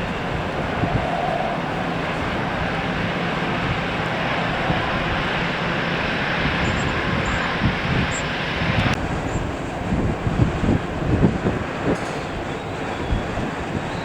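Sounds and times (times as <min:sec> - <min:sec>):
jet engine rushing: 0:00.0 - 0:14.0
wind buffeting microphone: 0:00.0 - 0:14.0.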